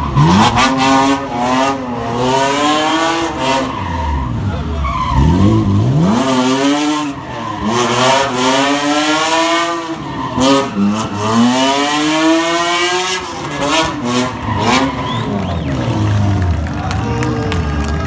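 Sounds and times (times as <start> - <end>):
car engine revving hard: 0.0 - 16.6.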